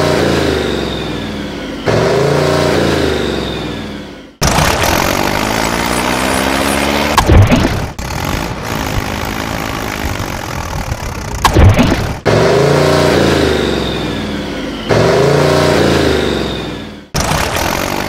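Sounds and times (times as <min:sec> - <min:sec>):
tractor engine revving: 0:00.0 - 0:18.0.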